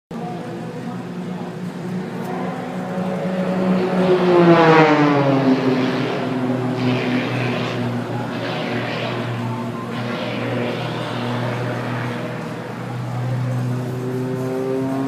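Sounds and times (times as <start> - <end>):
propeller plane flying past: 0.2 - 15.0.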